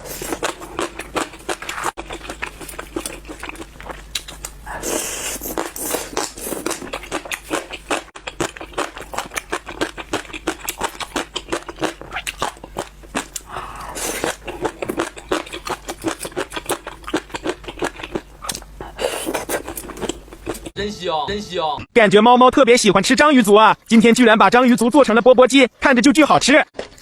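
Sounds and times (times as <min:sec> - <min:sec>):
crunchy chewing of crisp food: 0:00.0 - 0:20.8, 0:25.7 - 0:27.0.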